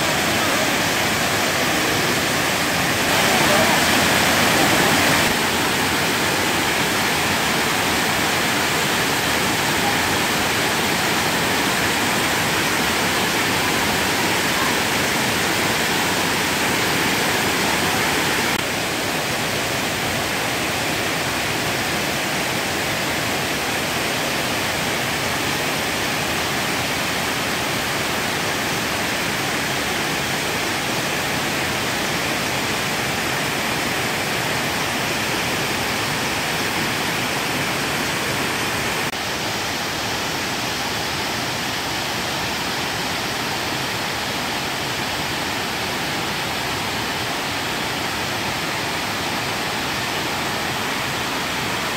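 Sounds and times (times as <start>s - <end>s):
waterfall rushing over rocks: 0.0s - 51.9s.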